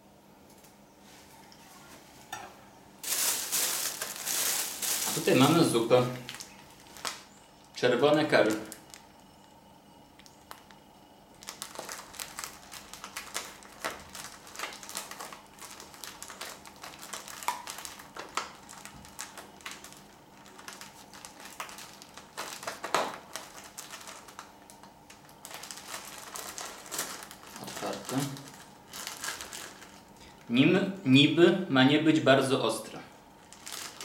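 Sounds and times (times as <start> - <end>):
plastic bag crinkling: 3.0 - 9.3, 10.2 - 30.5, 33.4 - 34.0.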